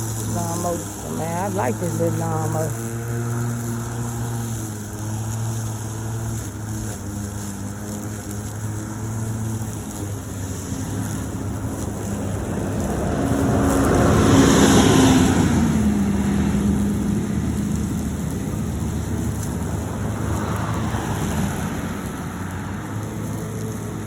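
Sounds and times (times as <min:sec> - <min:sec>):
electric lawnmower cutting grass: 0:00.0 - 0:24.0.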